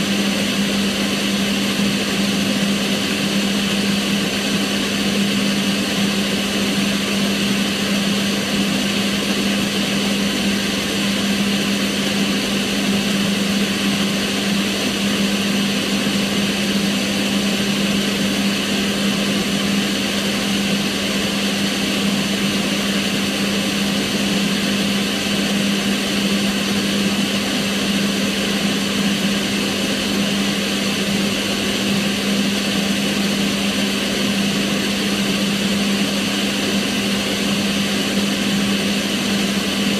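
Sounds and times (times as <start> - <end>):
range hood extractor fan humming: 0.0 - 39.9.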